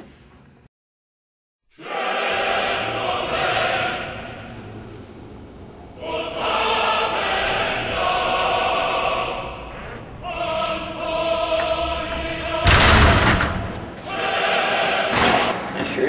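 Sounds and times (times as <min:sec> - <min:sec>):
choir singing held chords: 0:01.7 - 0:16.0.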